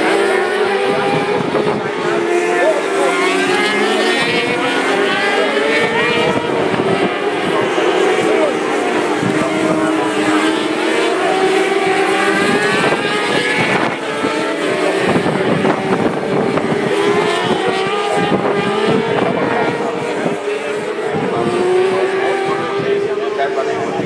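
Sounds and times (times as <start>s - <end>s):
racing motorcycles passing: 0.0s - 24.0s.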